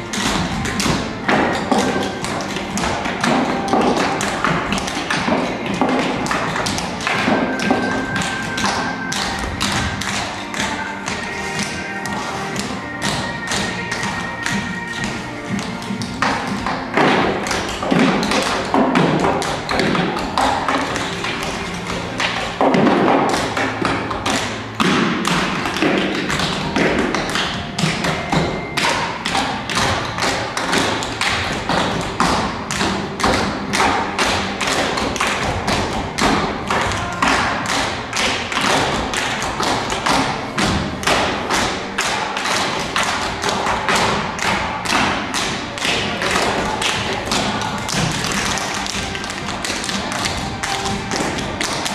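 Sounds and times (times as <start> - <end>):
feet tapping and stomping: 0.0 - 51.9
music: 0.0 - 51.9.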